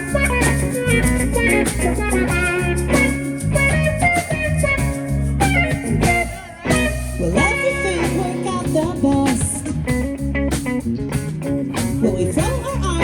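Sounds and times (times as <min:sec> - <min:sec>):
drums: 0:00.0 - 0:13.0
guitar lines: 0:00.0 - 0:13.0
live band playing: 0:00.0 - 0:13.0.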